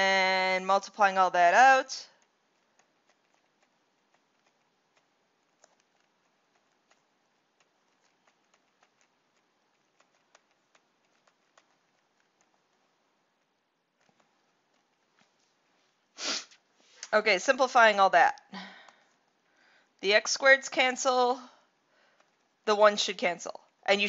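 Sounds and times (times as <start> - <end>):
low hiss: 0.0 - 24.0.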